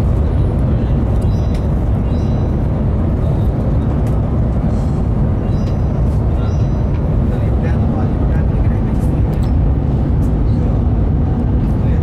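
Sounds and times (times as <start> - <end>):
train cabin rumble: 0.0 - 12.0.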